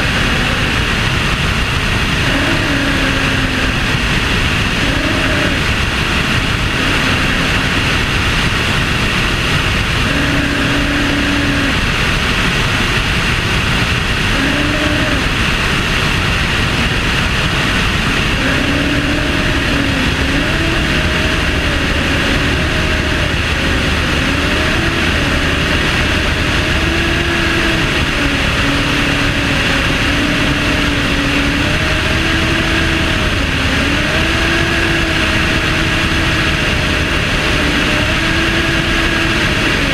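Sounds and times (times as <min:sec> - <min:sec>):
light aircraft engine and propeller: 0:00.0 - 0:39.9
wind rush on microphone: 0:00.0 - 0:39.9.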